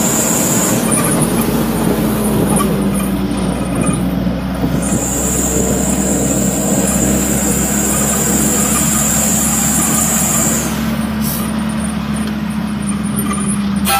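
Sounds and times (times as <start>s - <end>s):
truck engine and road rumble: 0.0s - 13.9s.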